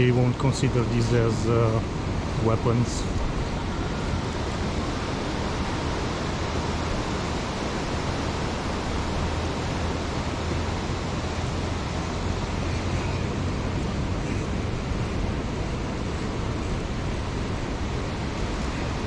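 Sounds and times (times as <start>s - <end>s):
beach surf: 0.0s - 19.0s
wind rumbling on microphone: 0.0s - 19.0s.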